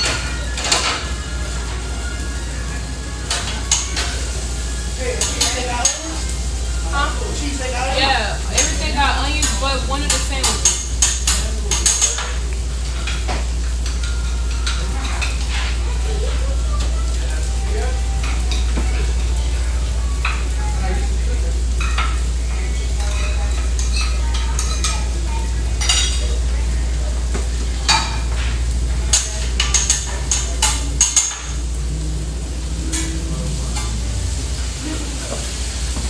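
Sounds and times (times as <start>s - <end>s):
food sizzling on a griddle: 0.0s - 36.0s
low kitchen hum: 0.0s - 36.0s
utensils and dishes clanking: 0.0s - 36.0s.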